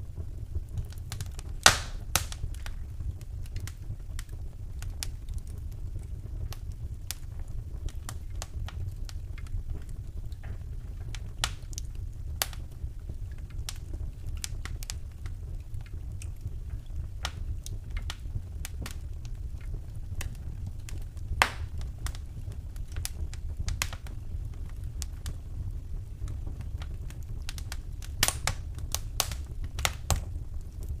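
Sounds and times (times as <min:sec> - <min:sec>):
fire burning in fireplace: 0:00.0 - 0:31.0
fire crackles and pops: 0:00.0 - 0:31.0.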